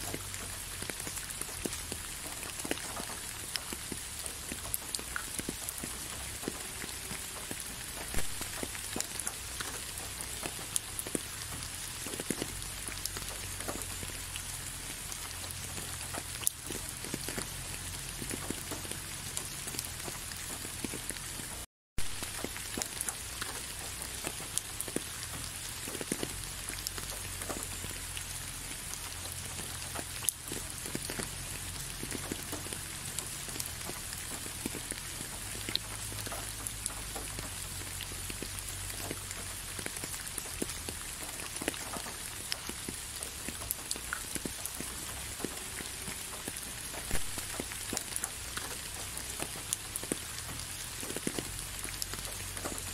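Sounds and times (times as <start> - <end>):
raindrops ticking close by: 0.0 - 52.9
steady rain hiss: 0.0 - 52.9.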